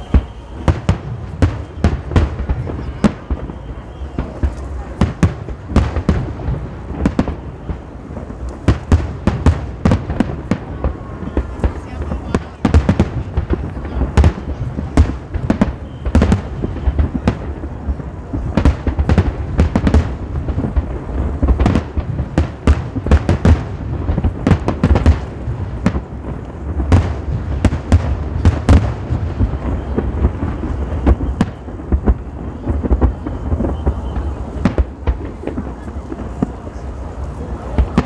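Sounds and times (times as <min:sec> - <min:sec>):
continuous low rumble: 0:00.0 - 0:38.0
fireworks bursting with sharp bangs: 0:00.0 - 0:38.0.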